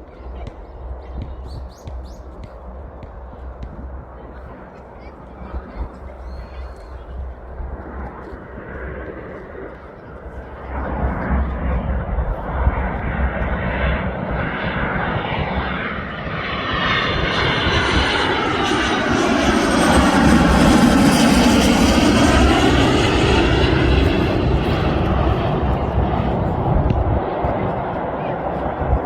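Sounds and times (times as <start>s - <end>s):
aircraft passing low overhead: 1.6s - 29.0s.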